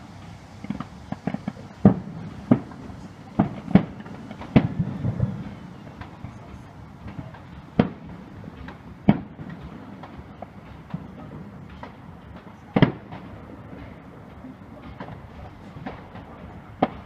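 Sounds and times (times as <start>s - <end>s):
firework pops and crackles: 0.0s - 17.0s
fireworks bangs: 0.0s - 17.0s
steady low rumble: 0.0s - 17.0s.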